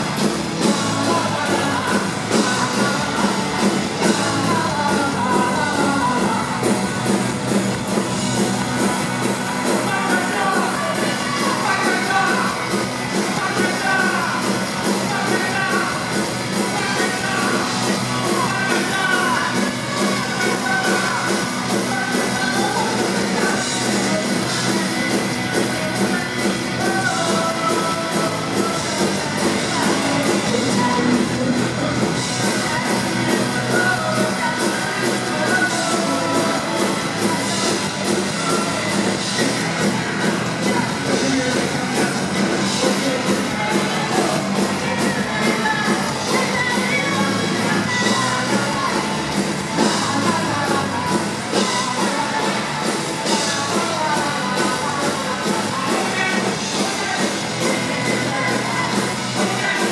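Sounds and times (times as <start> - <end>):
electric guitars: 0.0 - 59.9
live rock band: 0.0 - 59.9.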